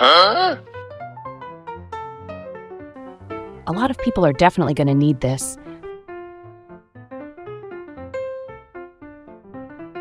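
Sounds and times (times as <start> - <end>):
light piano melody: 0.6 - 10.0.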